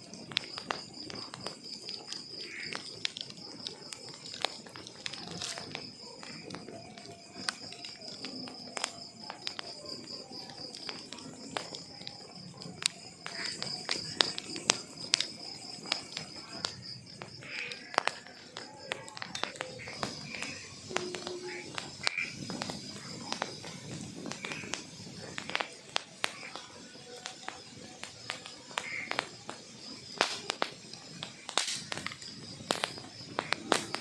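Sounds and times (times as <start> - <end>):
cricket trill: 0.0 - 34.0
logs crackling in a fireplace: 0.0 - 34.0.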